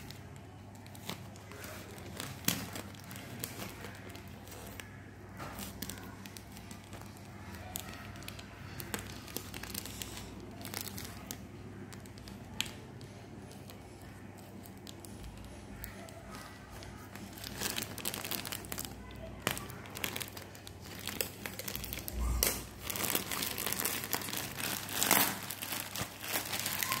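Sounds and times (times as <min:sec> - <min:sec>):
plastic bag crinkling: 0:00.0 - 0:27.0.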